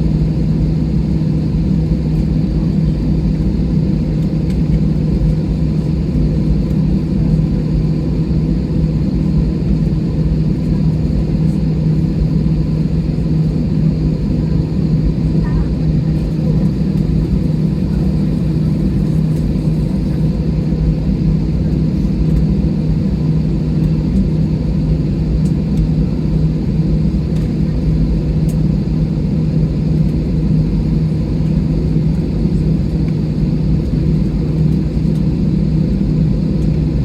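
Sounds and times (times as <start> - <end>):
jet engines droning in cabin: 0.0 - 37.0.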